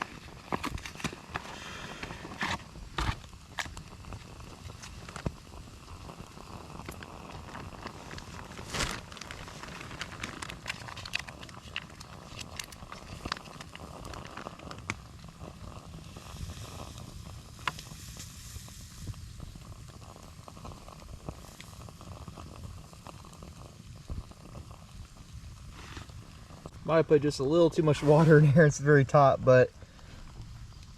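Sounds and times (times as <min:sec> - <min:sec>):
soft hiss: 0:00.0 - 0:30.9.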